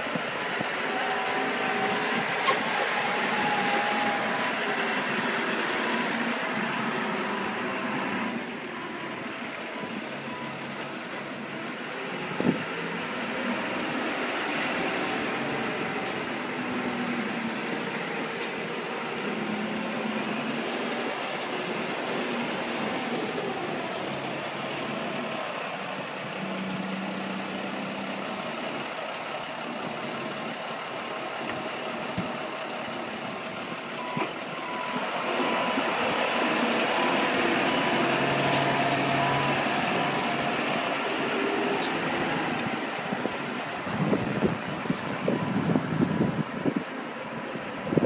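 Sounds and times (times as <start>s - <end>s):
forklift engine running: 0.0s - 48.0s.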